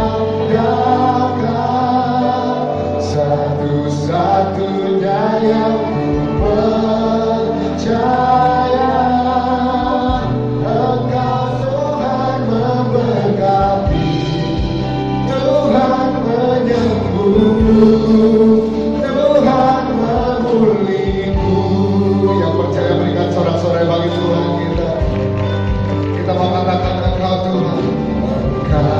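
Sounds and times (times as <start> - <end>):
bass line: 0.0 - 28.9
choir singing gospel song: 0.0 - 28.9.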